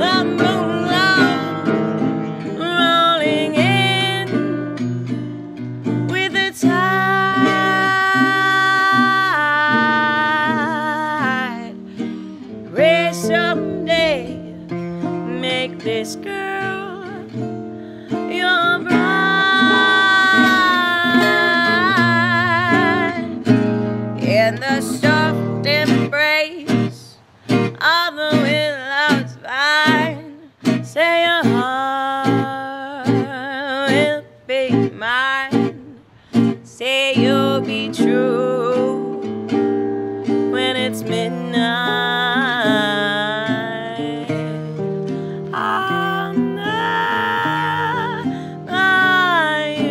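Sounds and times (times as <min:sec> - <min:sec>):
plucked guitar: 0:00.0 - 0:49.9
woman singing: 0:00.0 - 0:49.9.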